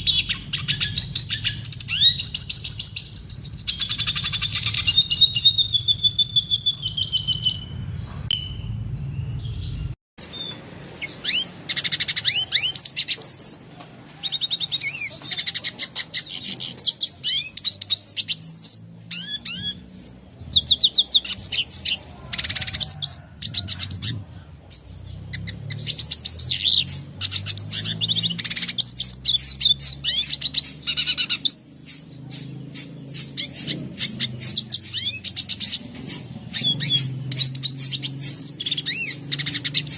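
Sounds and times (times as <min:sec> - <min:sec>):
bird twittering and trilling: 0:00.0 - 0:13.6, 0:14.2 - 0:39.9.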